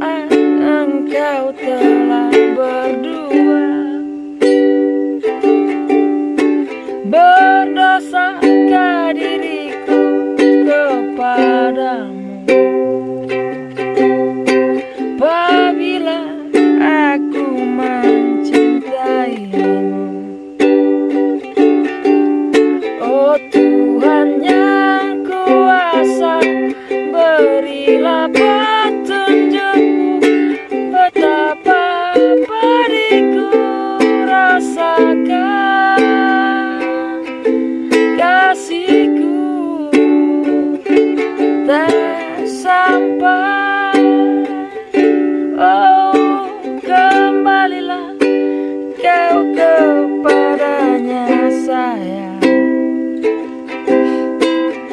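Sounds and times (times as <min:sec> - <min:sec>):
strummed ukulele: 0:00.0 - 0:54.9.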